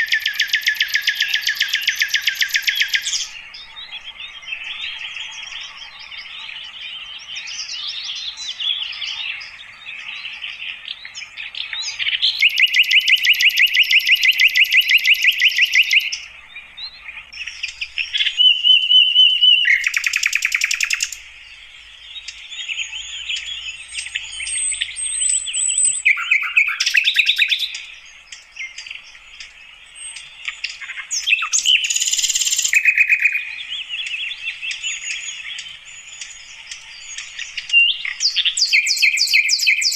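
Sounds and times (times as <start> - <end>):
flycatcher singing chirps and trills: 0.0 - 39.9.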